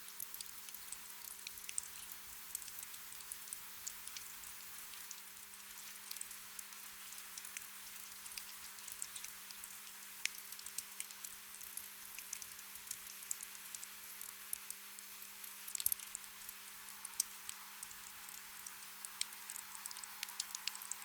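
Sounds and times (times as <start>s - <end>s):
light rain pattering: 0.0s - 21.0s.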